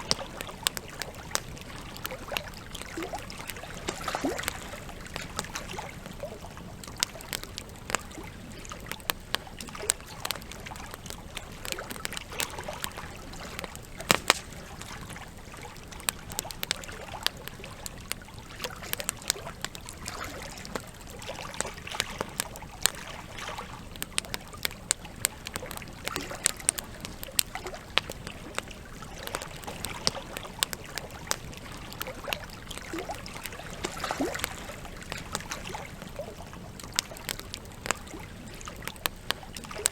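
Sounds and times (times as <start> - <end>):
campfire crackling: 0.0 - 39.9
trickle of flowing water: 0.0 - 39.9.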